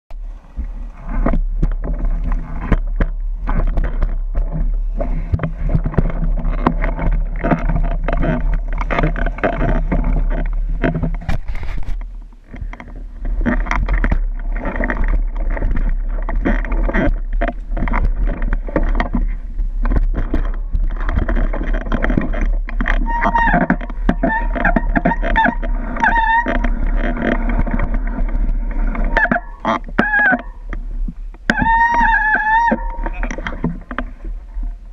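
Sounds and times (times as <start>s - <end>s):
bike knocking and rattling: 1.2s - 34.2s.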